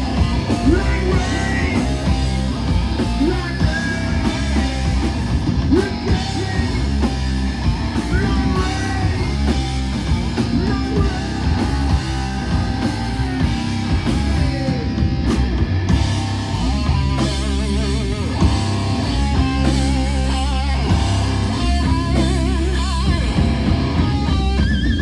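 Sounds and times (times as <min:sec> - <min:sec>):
lead guitar with wide vibrato: 0:00.0 - 0:25.0
live heavy rock band: 0:00.0 - 0:25.0.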